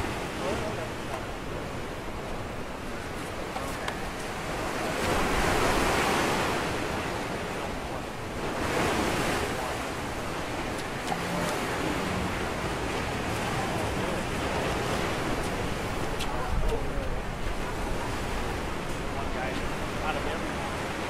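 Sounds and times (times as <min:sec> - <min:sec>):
surf washing onto rocks: 0:00.0 - 0:21.0.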